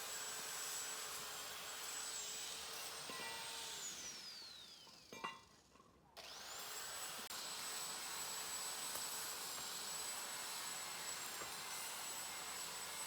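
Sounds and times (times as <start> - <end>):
power tool motor whine: 0.0 - 5.2, 6.2 - 13.0.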